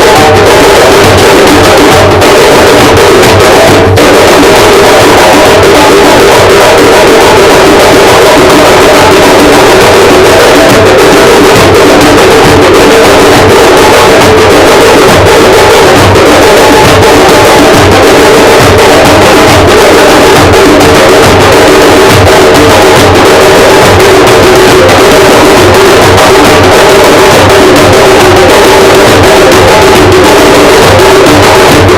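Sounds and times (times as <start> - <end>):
loud music with drum beat: 0.0 - 31.9.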